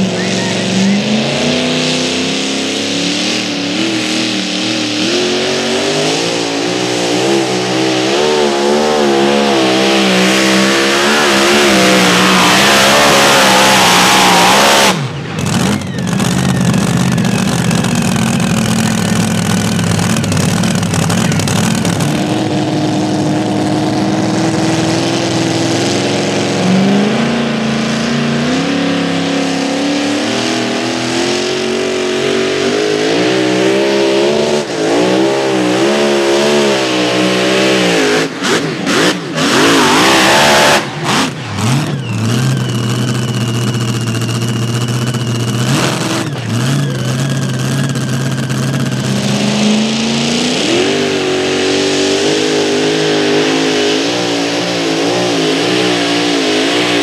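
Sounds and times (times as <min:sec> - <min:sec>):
another truck engine revving: 0:00.0 - 0:57.0
truck engine revving at full power: 0:00.0 - 0:57.0.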